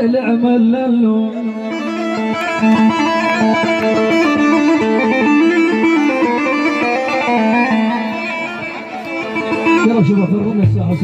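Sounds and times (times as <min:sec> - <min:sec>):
electronic keyboard dance melody: 0:01.4 - 0:11.0.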